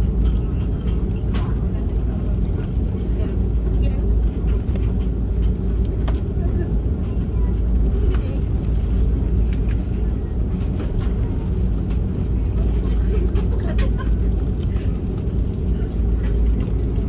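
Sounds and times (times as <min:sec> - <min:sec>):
airliner engines idling: 0:00.0 - 0:17.0.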